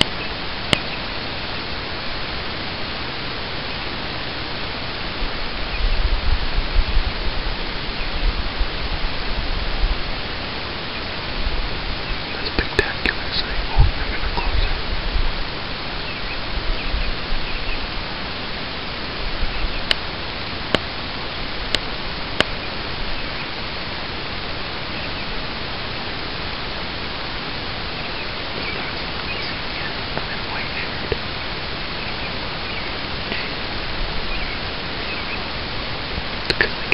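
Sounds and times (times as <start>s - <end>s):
loud microphone hiss: 0.0s - 36.9s
low rumbles: 0.0s - 36.9s.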